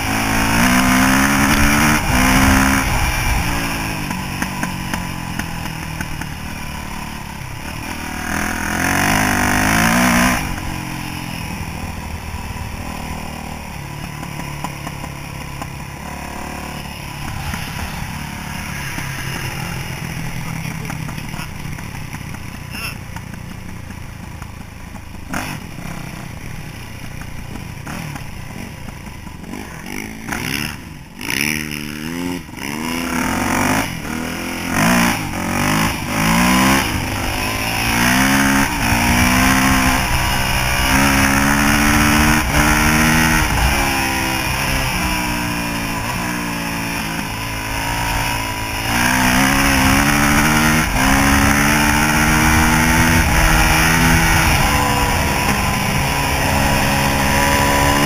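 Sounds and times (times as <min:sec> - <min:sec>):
dirt bike engine revving: 0:00.0 - 0:23.3, 0:25.1 - 0:26.8, 0:27.8 - 0:58.0.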